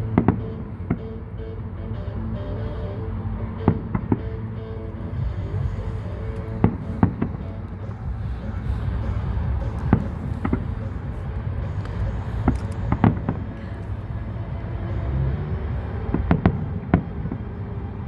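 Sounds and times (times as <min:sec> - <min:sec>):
low rumble: 0:00.0 - 0:18.0
music playing: 0:00.0 - 0:18.0.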